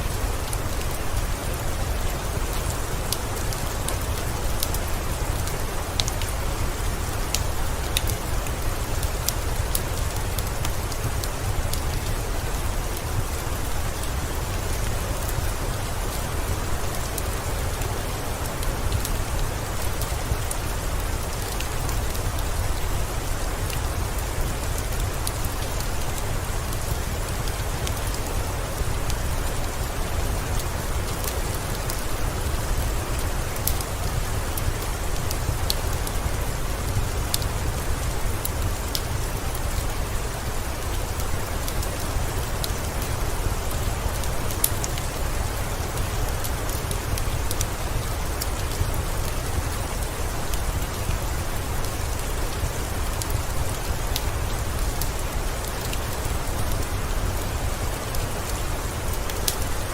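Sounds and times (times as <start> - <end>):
rain falling: 0.0 - 59.9
wood fire crackling: 0.0 - 59.9.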